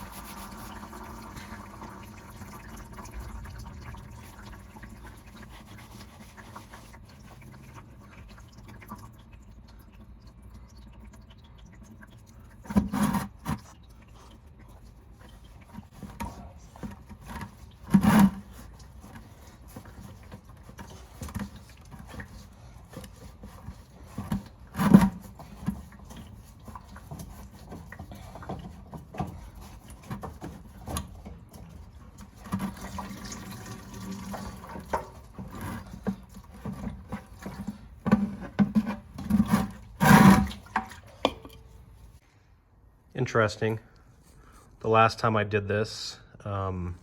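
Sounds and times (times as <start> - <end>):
liquid noise: 0.0 - 42.2.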